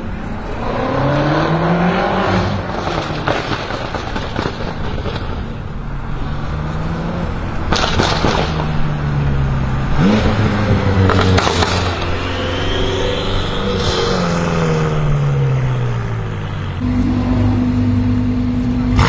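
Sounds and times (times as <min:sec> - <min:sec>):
car engine revving: 0:00.0 - 0:19.0
sharp exhaust cracks: 0:00.0 - 0:19.0.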